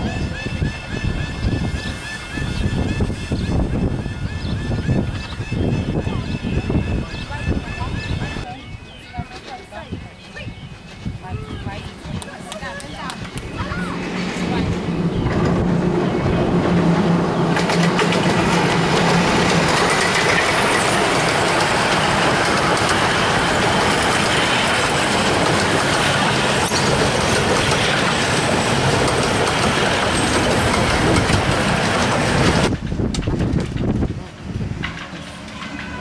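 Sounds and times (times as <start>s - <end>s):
train coaches clattering over rails: 5.0s - 36.0s.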